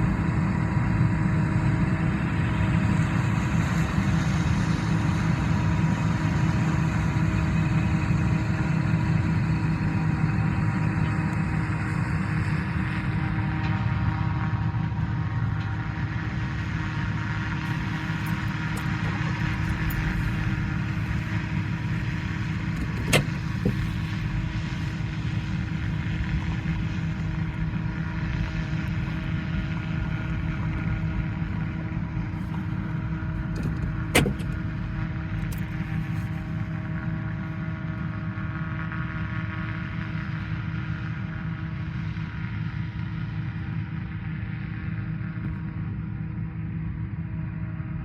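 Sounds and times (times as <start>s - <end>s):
engine humming: 0.0s - 47.1s.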